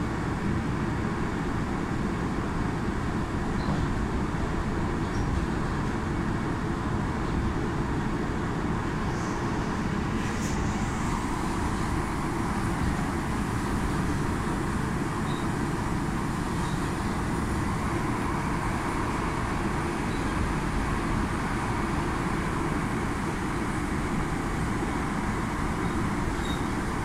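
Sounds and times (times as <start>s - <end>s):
train rumble from inside carriage: 0.0s - 27.0s.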